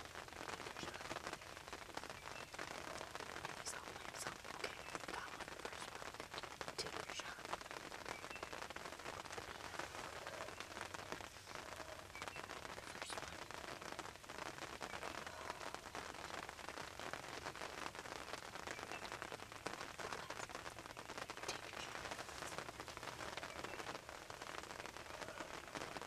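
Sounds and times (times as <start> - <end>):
faint crackling ticks: 0.0 - 26.0.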